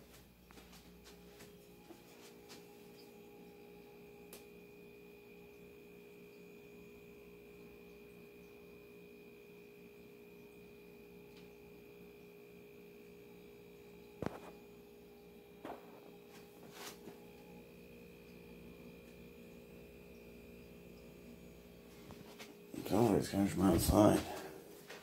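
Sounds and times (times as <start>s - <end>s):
humming drone of held tones: 0.0s - 25.0s
thin high whine: 0.0s - 25.0s.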